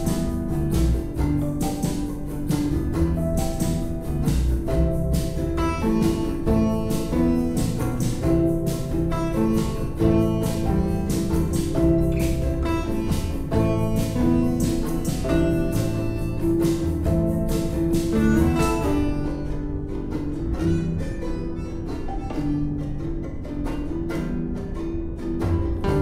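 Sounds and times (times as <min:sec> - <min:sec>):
plucked acoustic guitar music: 0:00.0 - 0:26.0.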